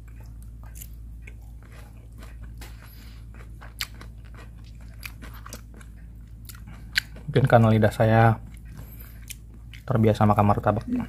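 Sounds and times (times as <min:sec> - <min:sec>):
crunchy chewing: 0:00.0 - 0:10.8.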